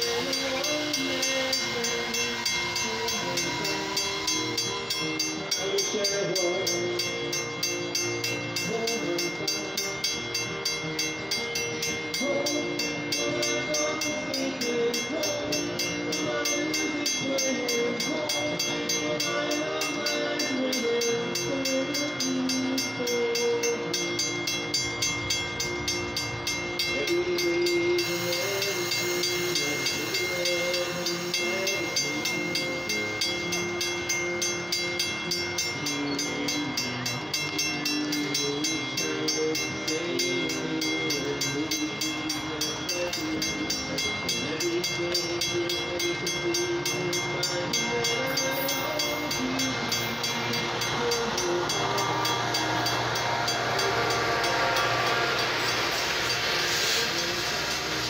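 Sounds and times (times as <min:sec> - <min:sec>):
train wheels rumbling on rail: 0:00.0 - 0:07.6, 0:11.4 - 0:58.0
crossing bell ringing: 0:00.0 - 0:58.0
wavering whining tones: 0:00.0 - 0:58.0.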